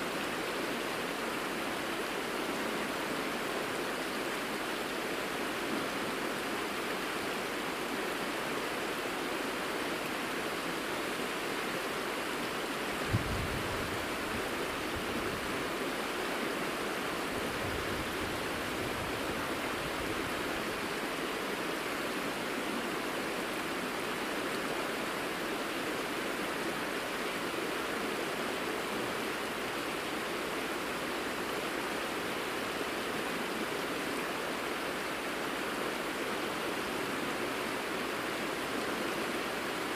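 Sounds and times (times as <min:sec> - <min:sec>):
river flowing over gravel: 0:00.0 - 0:39.9.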